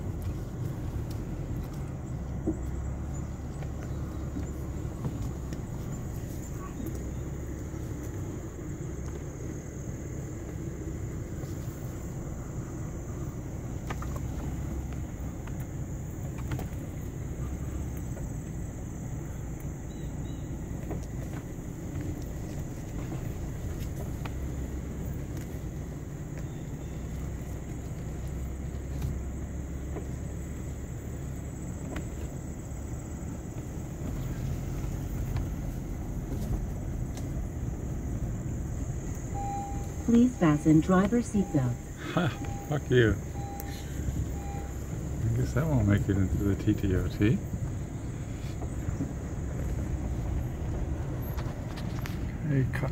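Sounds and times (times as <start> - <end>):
car engine and tyres rumbling: 0.0 - 52.9.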